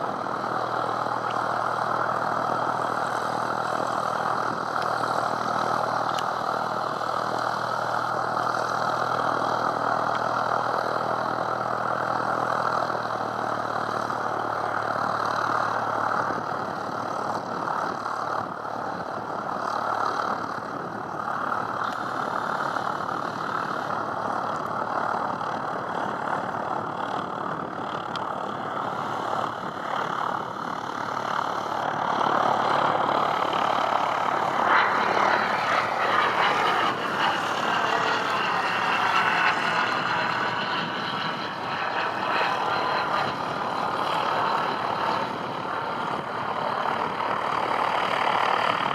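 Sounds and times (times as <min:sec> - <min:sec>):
propeller aircraft engine drone: 0:00.0 - 0:48.9.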